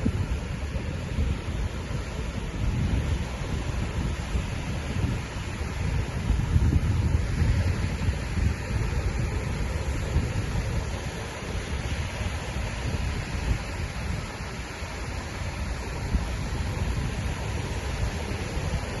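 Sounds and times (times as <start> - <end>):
surf washing on beach: 0.0 - 19.0
wind buffeting microphone: 0.0 - 19.0.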